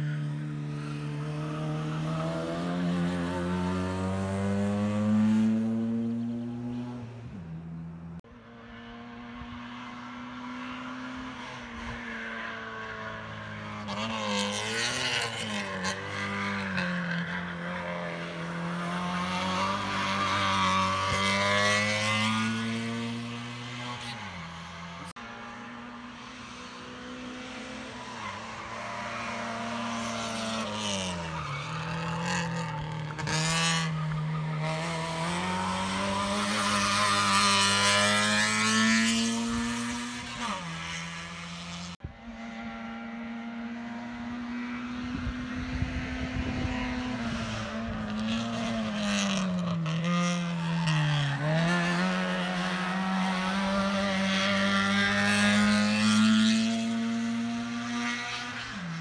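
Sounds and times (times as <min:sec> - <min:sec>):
racing car engine at high revs: 0:00.0 - 0:59.0.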